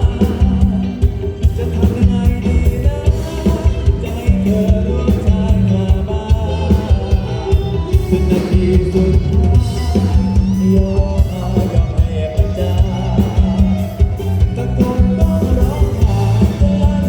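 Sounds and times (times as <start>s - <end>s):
bass: 0.0s - 17.0s
drum kit beat: 0.0s - 17.0s
live band playing: 0.0s - 17.0s.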